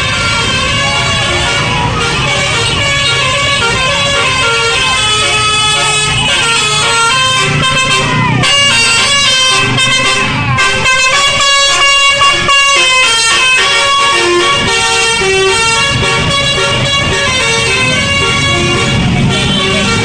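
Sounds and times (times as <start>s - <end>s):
bus air horn melody: 0.0s - 20.0s.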